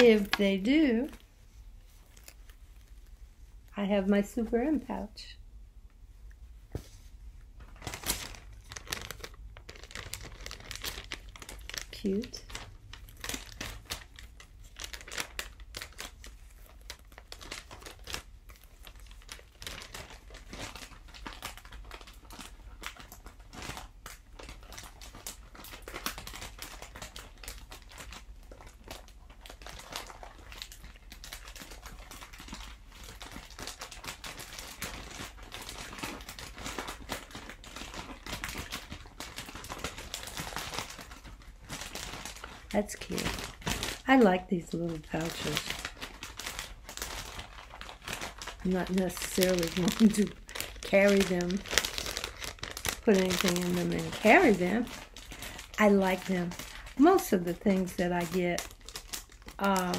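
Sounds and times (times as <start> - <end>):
packaging crinkling and rustling: 0.0 - 3.8, 6.7 - 59.9.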